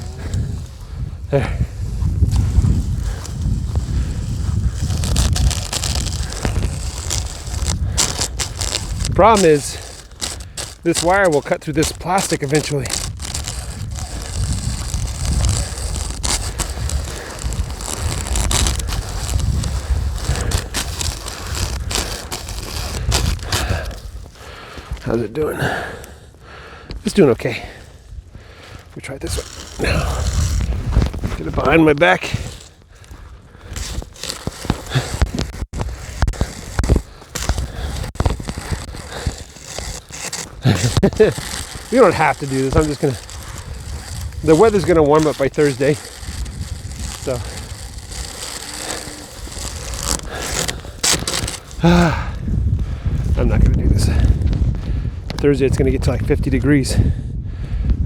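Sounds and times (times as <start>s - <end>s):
wind rumble on microphone: 0.0s - 10.8s, 11.8s - 27.0s, 27.6s - 39.9s, 40.6s - 58.0s
sharp ice cracks: 0.0s - 26.1s, 28.6s - 52.4s
ice crunching and crackling: 0.0s - 56.7s.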